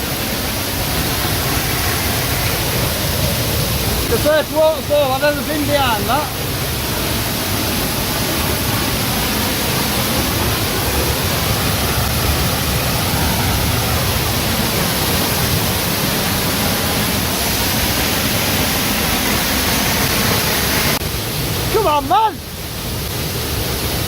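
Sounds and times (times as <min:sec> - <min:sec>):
waterfall crashing: 0:00.0 - 0:24.0.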